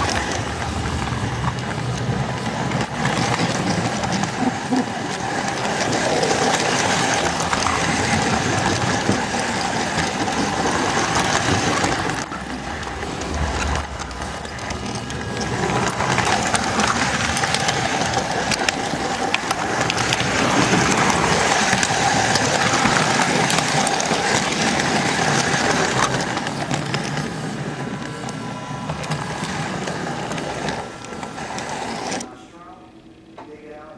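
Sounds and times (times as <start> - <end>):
wheel rumble: 0.0 - 32.2
model train motor hum: 0.0 - 32.3.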